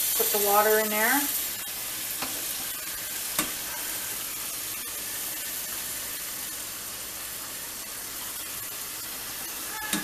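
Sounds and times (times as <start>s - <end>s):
faucet water running into pot: 0.0s - 10.0s.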